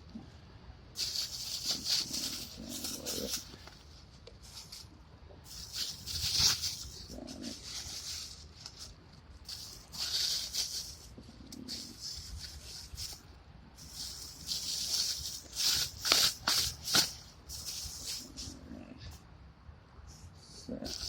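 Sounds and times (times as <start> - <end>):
rustling and rattling: 1.0 - 18.7.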